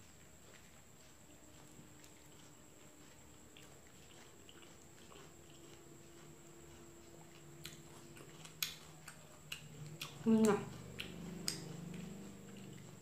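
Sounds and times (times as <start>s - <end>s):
close-up chewing and mouth sounds: 0.0s - 13.0s.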